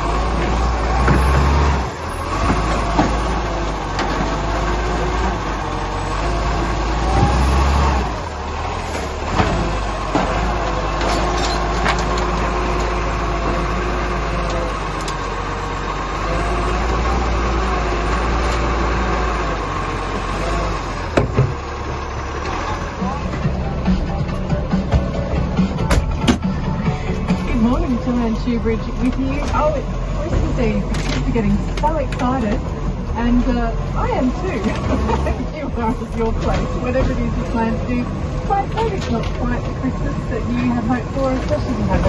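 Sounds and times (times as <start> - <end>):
garbage truck engine running: 0.0 - 42.0.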